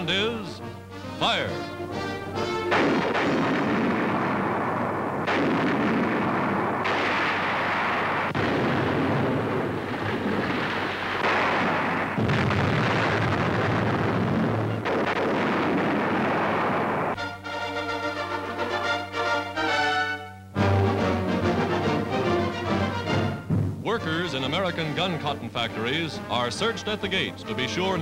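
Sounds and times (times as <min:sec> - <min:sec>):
howitzer blasts: 0:00.0 - 0:28.0.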